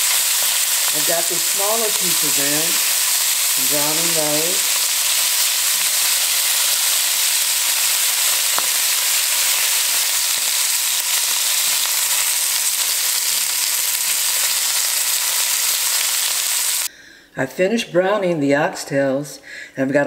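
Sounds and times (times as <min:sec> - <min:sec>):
meat sizzling in hot oil: 0:00.0 - 0:16.9.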